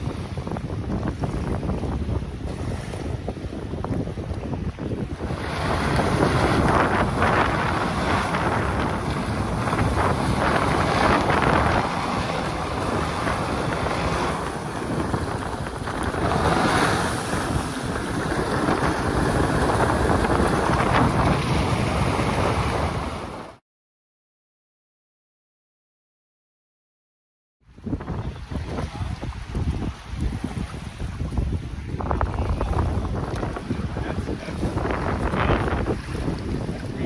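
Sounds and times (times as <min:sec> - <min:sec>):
jet ski churning water: 0:00.0 - 0:23.6, 0:27.7 - 0:37.0
wind noise on microphone: 0:00.0 - 0:23.6, 0:27.6 - 0:37.0.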